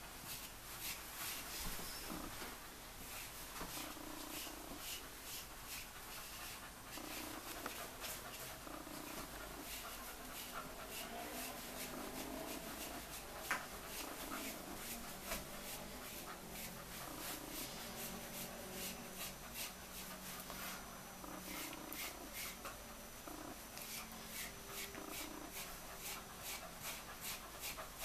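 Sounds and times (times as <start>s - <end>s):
brush scratching through fur: 0.2s - 28.0s.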